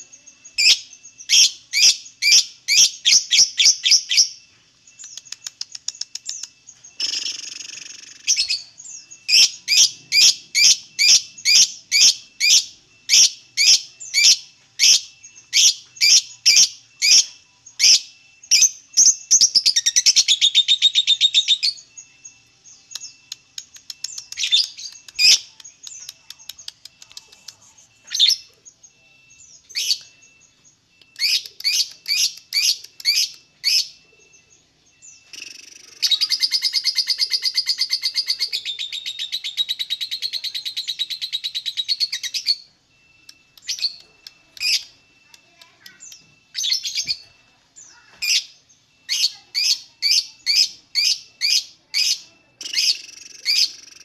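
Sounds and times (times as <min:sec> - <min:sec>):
lovebird chirping and chattering: 0:00.0 - 0:54.0.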